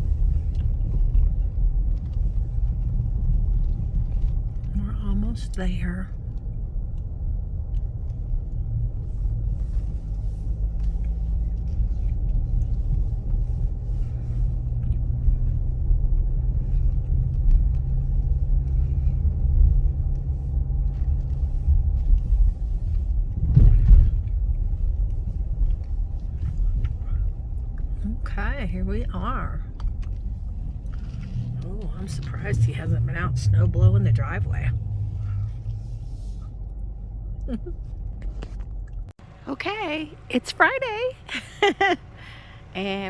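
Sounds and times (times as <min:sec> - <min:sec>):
car road noise from inside: 0:00.0 - 0:43.0.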